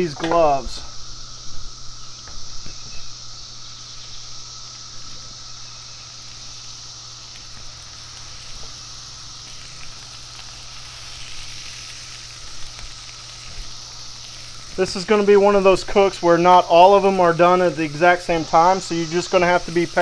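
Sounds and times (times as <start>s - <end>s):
chicken sizzling in hot oil: 0.0s - 20.0s
cicadas droning: 0.0s - 20.0s.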